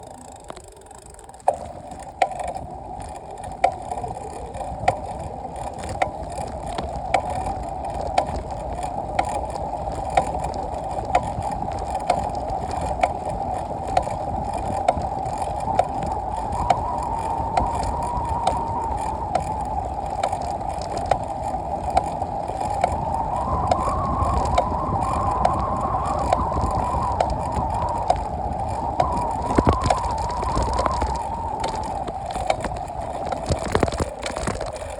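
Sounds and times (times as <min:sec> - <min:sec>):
low rumble: 0:00.0 - 0:34.9
mechanical whine: 0:00.0 - 0:34.9.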